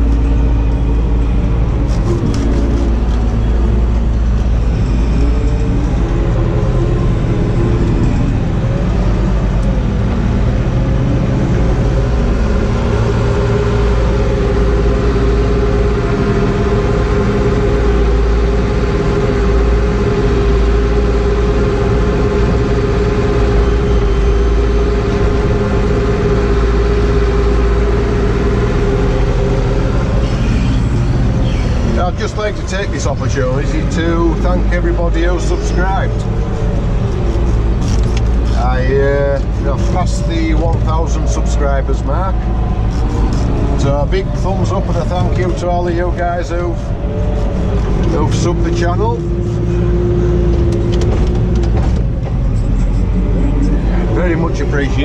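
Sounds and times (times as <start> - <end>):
diesel engine running: 0.0 - 55.0
steady whine: 0.0 - 55.0.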